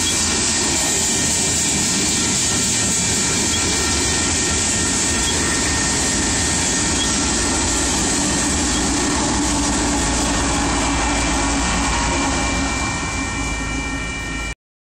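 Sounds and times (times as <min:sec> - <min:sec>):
freight cars rolling on rails: 0:00.0 - 0:14.6
high whine: 0:00.0 - 0:14.6
locomotive engine hum: 0:00.0 - 0:14.6.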